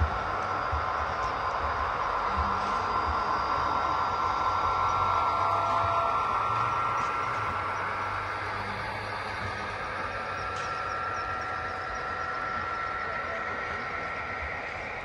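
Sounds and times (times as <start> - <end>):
model locomotive engine whine: 0.0 - 15.0.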